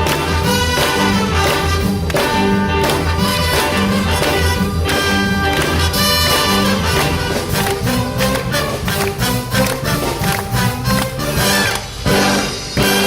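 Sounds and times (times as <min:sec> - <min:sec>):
steady bass beat: 0:00.0 - 0:12.9
jazz big band playing: 0:00.0 - 0:13.0.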